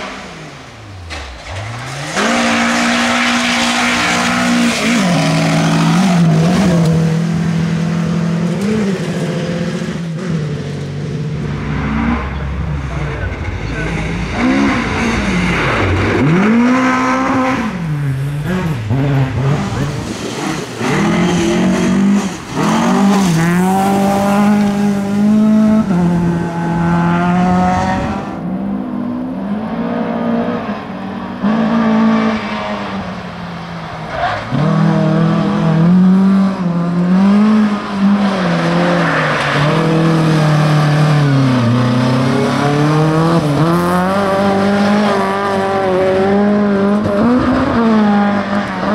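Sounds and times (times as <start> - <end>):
rally car engine revving hard: 1.4 - 33.2, 34.4 - 48.9.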